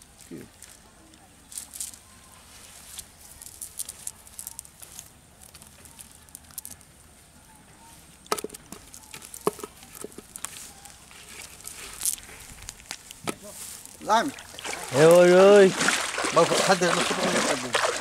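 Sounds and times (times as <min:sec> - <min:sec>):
cast net rustling on grass: 0:00.0 - 0:06.9, 0:07.8 - 0:18.0.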